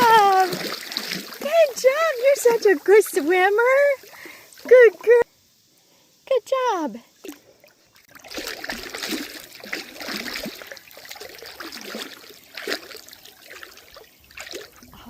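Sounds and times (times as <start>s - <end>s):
water splashing and trickling: 0.0s - 5.3s, 6.3s - 15.0s.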